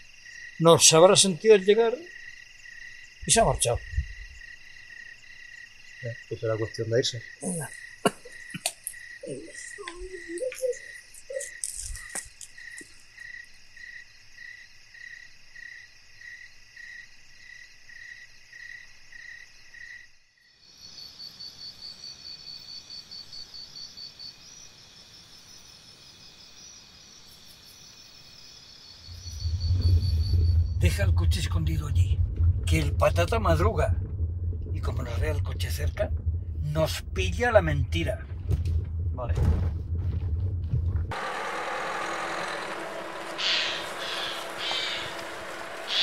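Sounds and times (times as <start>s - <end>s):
insect hiss: 0.0s - 32.1s, 41.2s - 46.0s
insect trill: 0.0s - 32.1s, 41.2s - 46.0s
cricket chirping: 0.0s - 38.3s, 41.2s - 46.0s.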